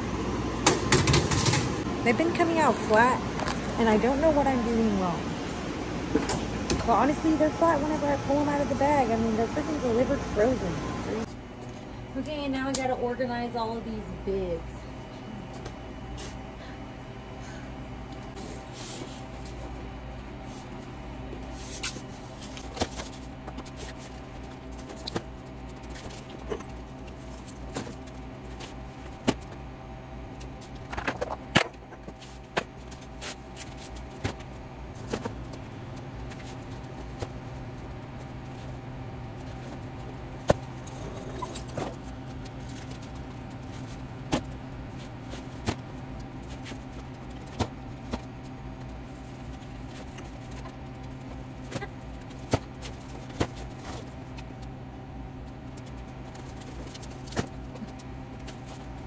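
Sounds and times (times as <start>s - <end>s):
refrigeration machine hum: 0.0s - 59.0s.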